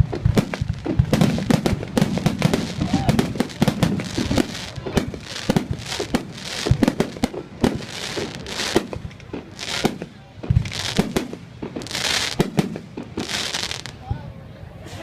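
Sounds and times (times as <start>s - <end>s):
crackling firework bursts: 0.0s - 14.0s
fireworks bangs and pops: 0.0s - 14.0s.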